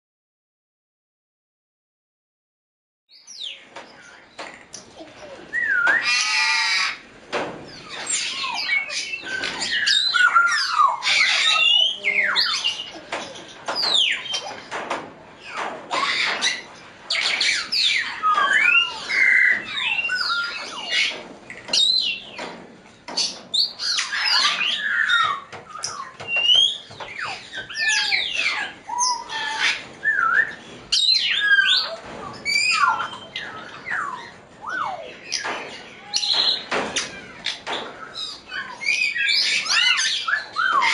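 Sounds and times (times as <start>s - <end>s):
parrots whistling and squawking: 5.2s - 7.0s, 7.7s - 14.7s, 15.4s - 22.4s, 23.2s - 40.9s.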